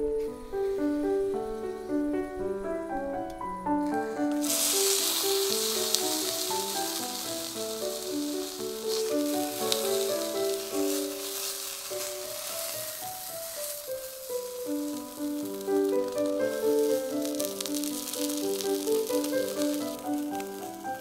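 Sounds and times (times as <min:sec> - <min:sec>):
meat sizzling in a skillet: 0:03.8 - 0:21.0.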